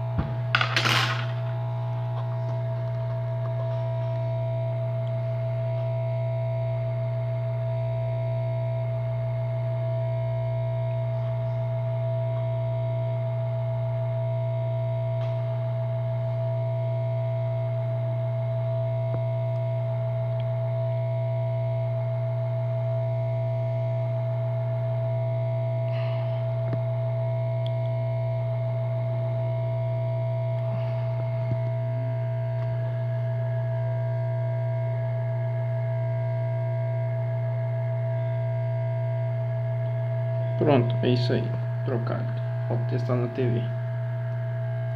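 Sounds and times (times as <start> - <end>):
electrical hum: 0.0 - 44.9
high whine tone: 0.0 - 44.9.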